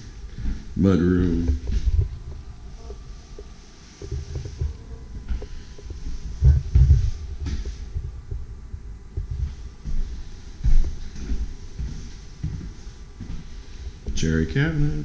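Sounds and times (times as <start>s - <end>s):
footsteps thumping: 1.4s - 13.5s.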